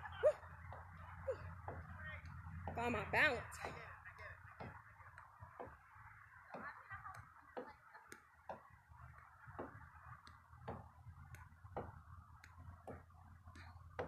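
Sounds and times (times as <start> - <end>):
low steady hum: 0.0 - 14.0
sneakers tapping on wooden boards: 0.6 - 5.8, 6.5 - 14.0.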